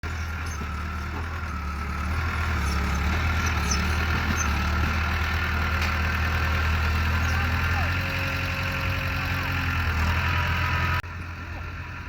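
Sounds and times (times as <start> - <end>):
bulldozer diesel engine humming: 0.0 - 12.0.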